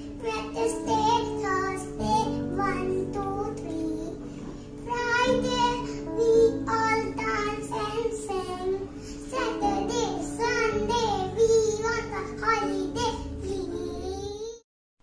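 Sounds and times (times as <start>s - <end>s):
child singing: 0.2s - 4.2s, 4.8s - 14.6s.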